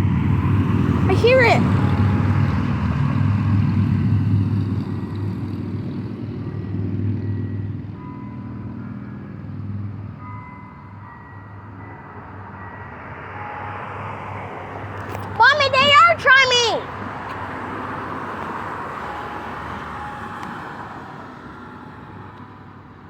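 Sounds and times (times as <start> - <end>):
distant church bells chiming: 0.0 - 23.0
low road traffic rumble: 0.0 - 23.0.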